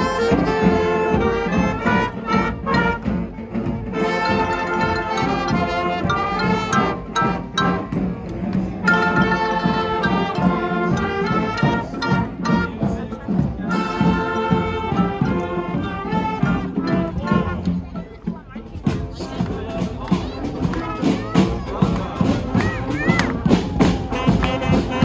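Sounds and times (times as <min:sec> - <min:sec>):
brass band playing: 0:00.0 - 0:18.2, 0:18.8 - 0:25.0.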